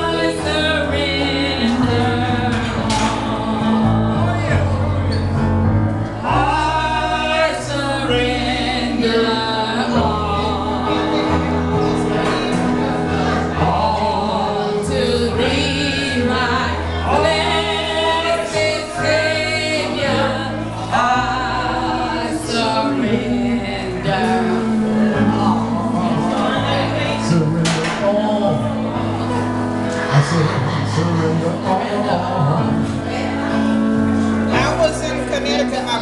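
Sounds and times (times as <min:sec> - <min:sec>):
group gospel singing: 0:00.0 - 0:36.0
held instrumental chords: 0:00.0 - 0:36.0.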